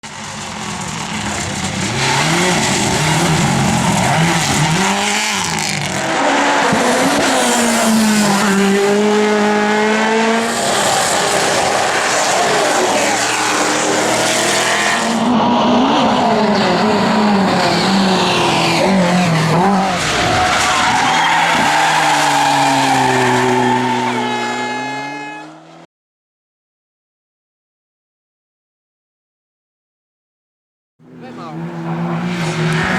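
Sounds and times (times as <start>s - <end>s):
race car engine revving: 0.1s - 25.8s, 31.0s - 32.9s.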